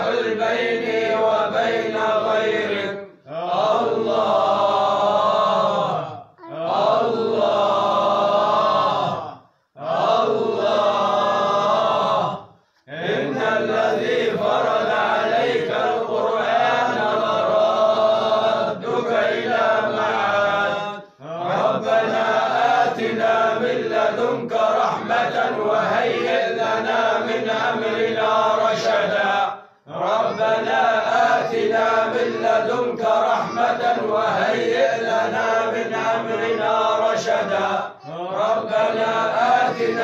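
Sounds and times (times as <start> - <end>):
voices chanting: 0.0 - 40.0.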